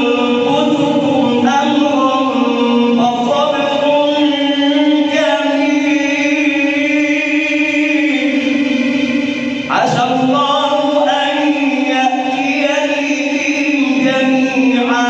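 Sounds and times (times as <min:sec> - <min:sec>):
man chanting recitation: 0:00.0 - 0:15.0.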